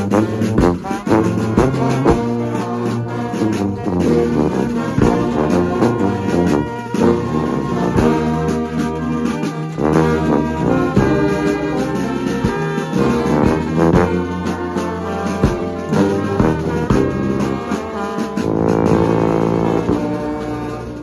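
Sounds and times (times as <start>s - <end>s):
bass drum beat: 0.0s - 9.2s, 9.8s - 21.0s
brass band playing chords: 0.0s - 21.0s.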